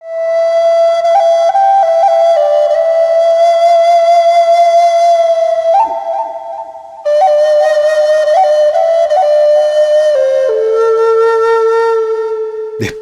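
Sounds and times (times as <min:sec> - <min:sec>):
flute playing slow melody: 0:00.0 - 0:12.5.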